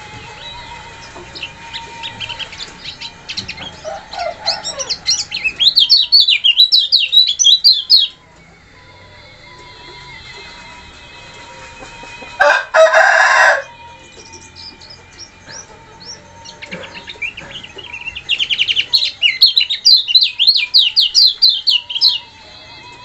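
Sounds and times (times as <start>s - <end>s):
songbird singing: 0.0s - 8.2s, 12.4s - 23.0s.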